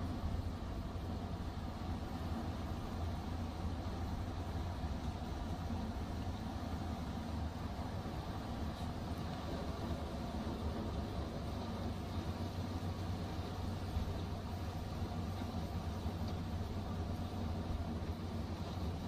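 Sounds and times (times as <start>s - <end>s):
plow blade pushing through snow: 0.0s - 19.0s
truck engine rumbling under load: 0.0s - 19.0s.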